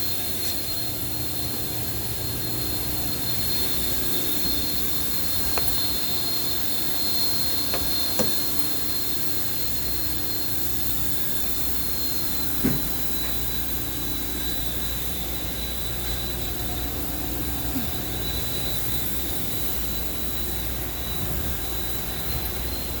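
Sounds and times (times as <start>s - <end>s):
steady mechanical drone: 0.0s - 23.0s
thin high whine: 0.0s - 23.0s.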